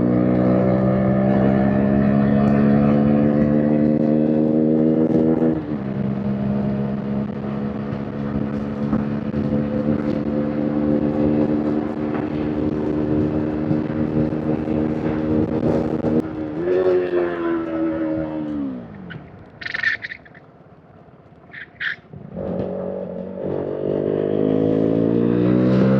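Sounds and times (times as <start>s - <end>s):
motorcycle engine cruising: 0.0s - 25.9s.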